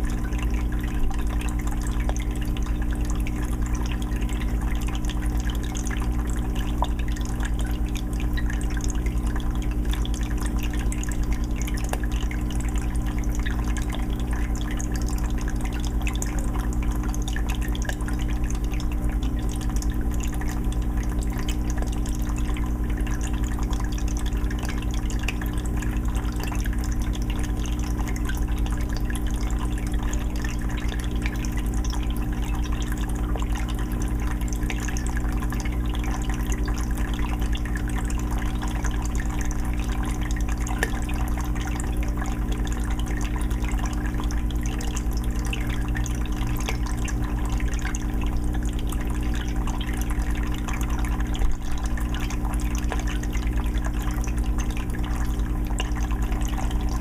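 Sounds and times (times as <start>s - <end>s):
steady low hum: 0.0s - 57.0s
trickling water: 0.0s - 57.0s.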